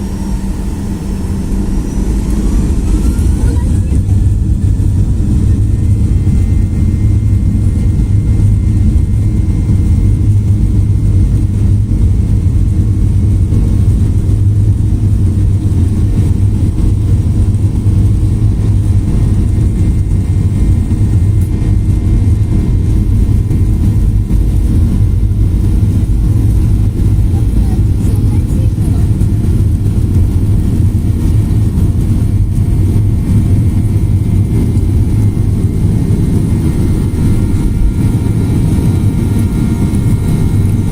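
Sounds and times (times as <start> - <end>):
faint jet whine: 0.0 - 40.9
jet engines deep rumble: 0.0 - 40.9.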